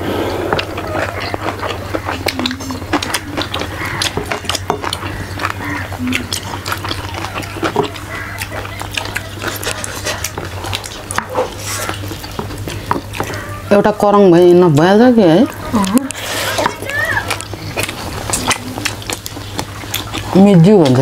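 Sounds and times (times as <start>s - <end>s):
low steady hum: 0.0s - 21.0s
people chewing: 0.0s - 21.0s.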